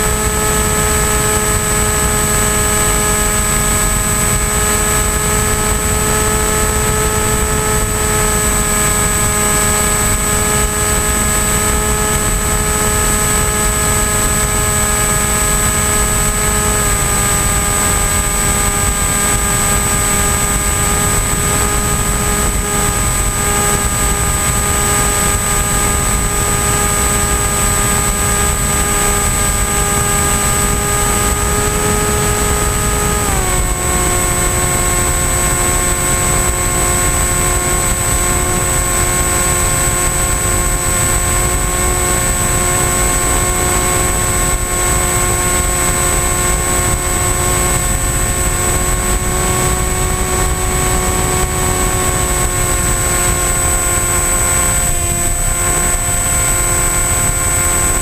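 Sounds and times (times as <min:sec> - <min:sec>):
electric motor and propeller whining: 0:00.0 - 0:58.0.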